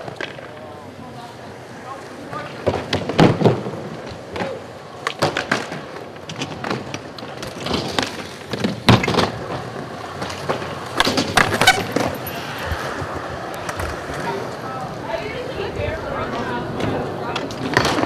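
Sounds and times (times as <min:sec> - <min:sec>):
skateboard wheels rolling on concrete: 0:00.0 - 0:18.0
skateboards clacking: 0:00.0 - 0:18.0.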